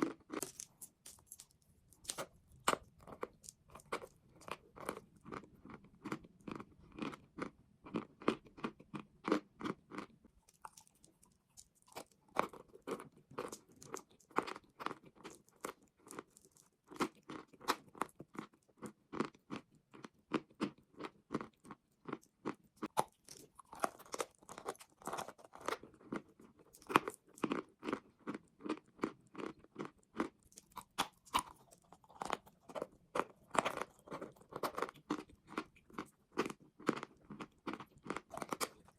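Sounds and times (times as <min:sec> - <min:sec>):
person chewing chalk: 0:00.0 - 0:38.9.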